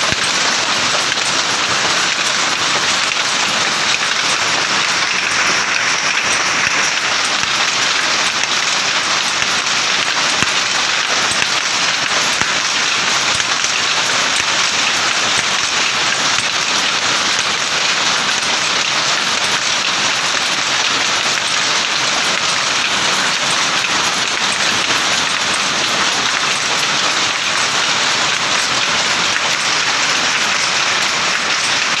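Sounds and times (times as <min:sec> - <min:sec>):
power loom clattering: 0:00.0 - 0:32.0.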